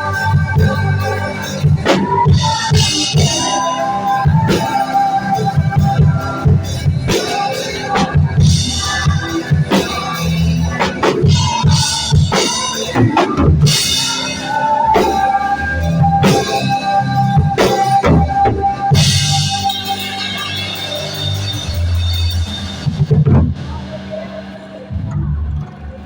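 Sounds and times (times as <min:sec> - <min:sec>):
held keyboard or guitar tone: 0:00.0 - 0:26.0
worship band playing: 0:00.0 - 0:26.0.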